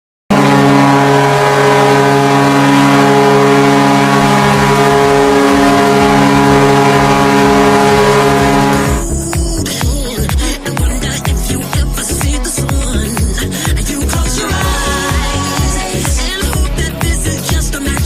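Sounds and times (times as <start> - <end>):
hockey goal horn blast: 0.3 - 9.8, 10.4 - 16.2.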